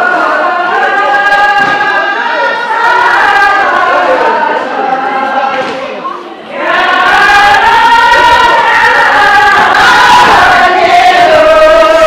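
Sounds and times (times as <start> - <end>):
group singing in unison: 0.0 - 12.0.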